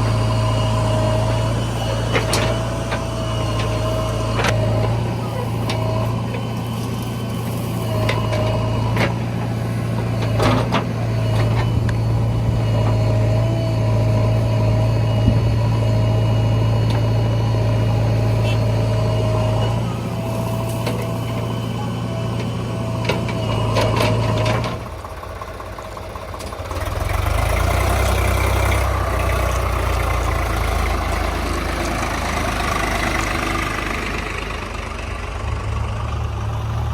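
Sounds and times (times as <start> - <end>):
deeper rougher engine: 0.0 - 36.9
heavy diesel engine running: 0.0 - 36.9.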